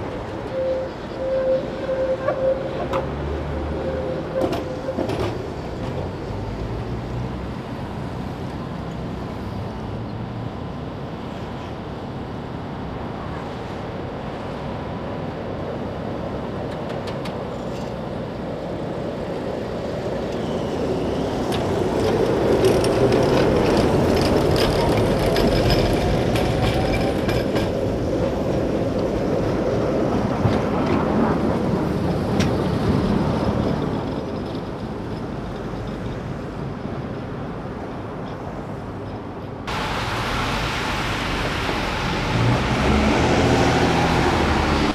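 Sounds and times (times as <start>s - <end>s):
wheels clicking and rattling on rails: 0.0s - 12.2s, 14.4s - 44.9s.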